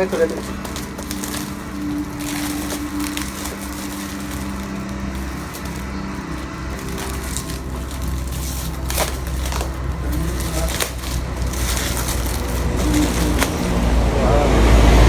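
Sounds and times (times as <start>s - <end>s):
cardboard and tape ripping: 0.0s - 14.2s.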